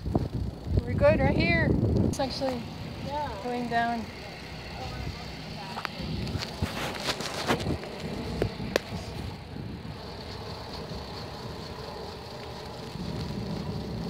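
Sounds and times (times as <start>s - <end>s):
wind rushing over microphone: 0.0s - 4.2s, 5.8s - 14.0s.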